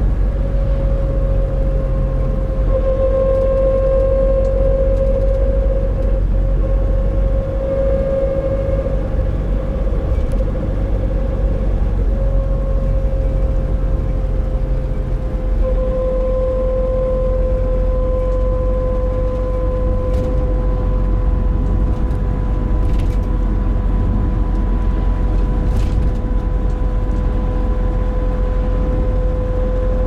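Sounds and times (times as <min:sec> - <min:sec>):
road and engine rumble: 0:00.0 - 0:30.0
van droning hum: 0:00.0 - 0:30.0.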